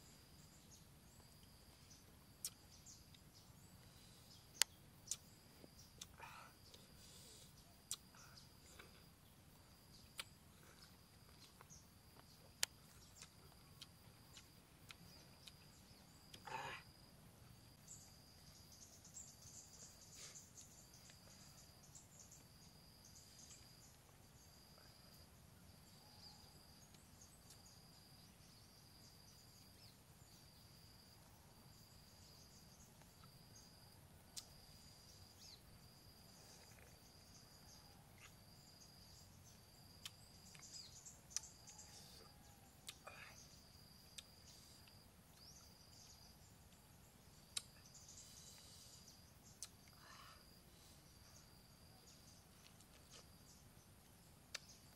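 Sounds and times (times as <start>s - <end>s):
insect chirping: 0.0s - 54.9s.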